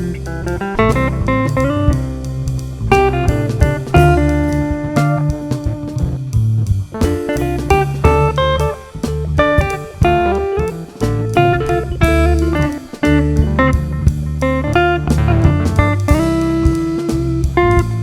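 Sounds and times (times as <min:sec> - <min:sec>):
bass and drums: 0:00.0 - 0:18.0
blues guitar single notes: 0:00.0 - 0:18.0.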